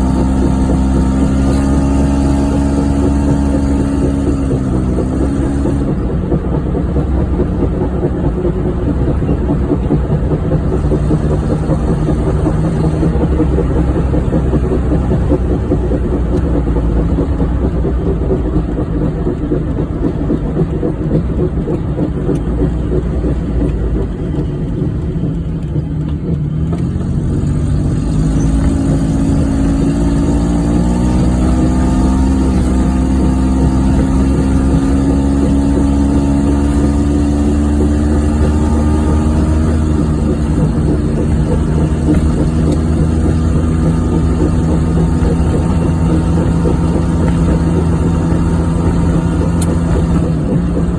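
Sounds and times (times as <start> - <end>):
car engine: 0.0 - 50.9
road noise: 0.0 - 50.9.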